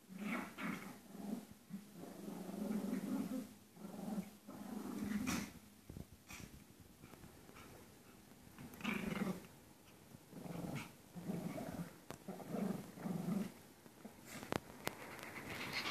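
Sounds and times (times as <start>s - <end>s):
dogs play-growling: 0.1s - 5.6s, 6.3s - 15.9s.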